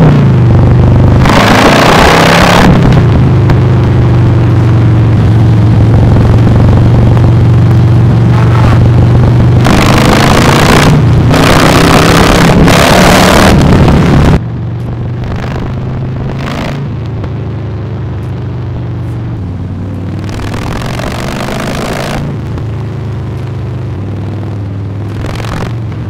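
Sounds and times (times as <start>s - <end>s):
wind rushing over microphone: 0.0s - 23.2s
motorcycle engine at road speed: 0.0s - 26.0s.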